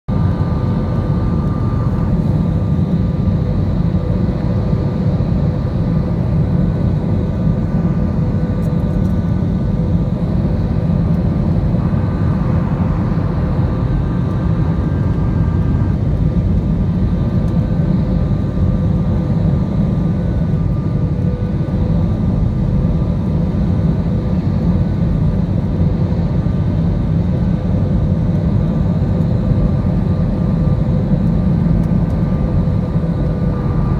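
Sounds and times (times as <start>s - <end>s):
airliner engines rumbling: 0.1s - 33.9s
faint engine whine: 0.1s - 33.9s.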